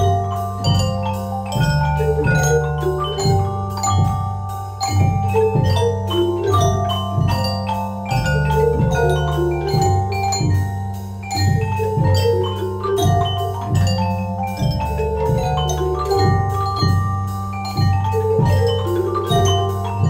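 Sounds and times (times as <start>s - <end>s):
xylophones and glockenspiels playing: 0.0s - 20.0s.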